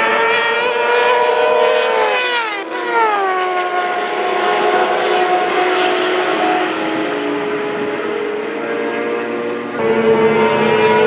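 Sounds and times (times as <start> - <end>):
racing sidecar engine at high revs: 0.0 - 11.0.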